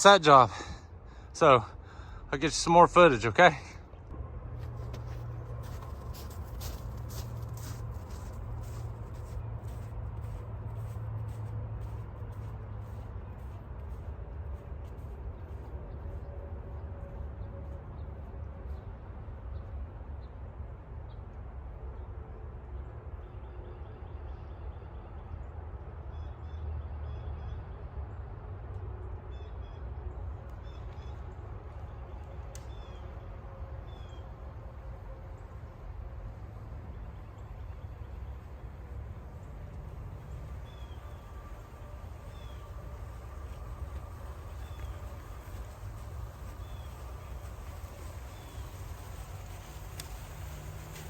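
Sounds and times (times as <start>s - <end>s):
steady low rumble: 0.0s - 26.2s, 27.3s - 51.0s.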